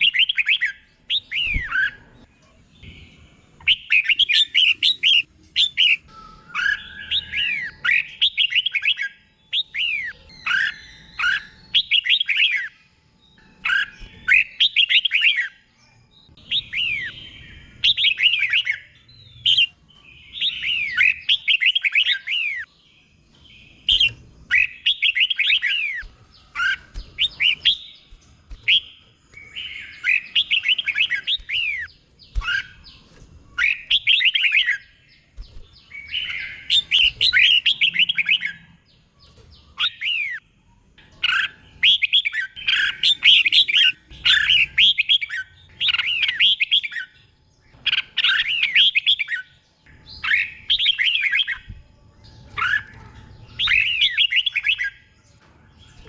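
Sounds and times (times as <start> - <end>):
bird singing gliding whistles: 3.6 - 38.8, 41.2 - 55.1.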